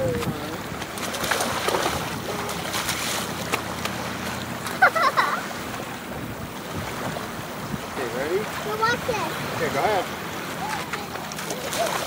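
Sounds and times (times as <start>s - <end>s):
feet splashing in shallow water: 0.0s - 12.0s
small waves lapping on pebbles: 0.2s - 12.0s.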